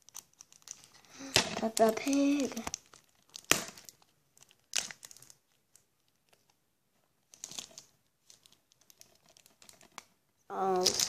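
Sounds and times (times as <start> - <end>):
plastic shrink-wrap crinkling: 0.0 - 6.6, 7.2 - 11.0.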